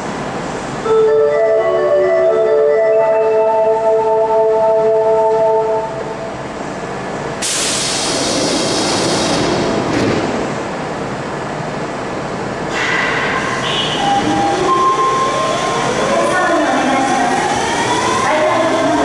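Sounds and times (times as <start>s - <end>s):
subway train wheel and air rush: 0.0s - 19.0s.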